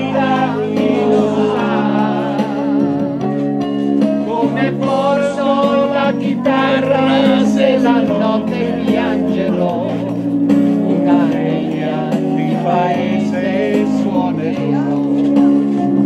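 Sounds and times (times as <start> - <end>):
man and woman singing: 0.0 - 3.4, 4.1 - 10.2, 10.8 - 15.2
electronic keyboard playing pop song: 0.0 - 16.0.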